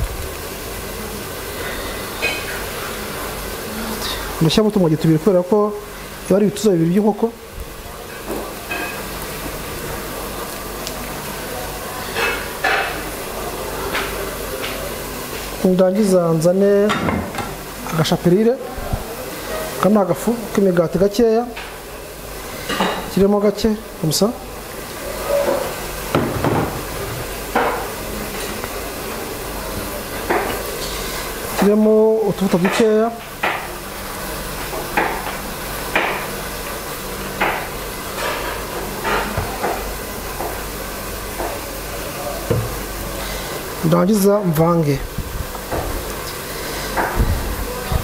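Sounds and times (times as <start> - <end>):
kitchen background hum and hiss: 0.0 - 48.0.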